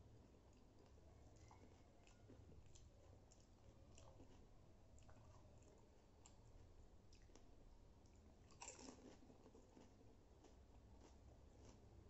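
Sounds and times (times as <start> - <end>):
faint chewing: 0.1 - 12.0.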